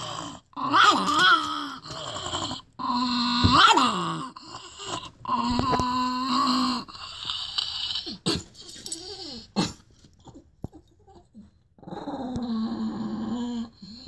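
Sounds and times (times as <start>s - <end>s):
small dog growling: 0.0s - 14.0s.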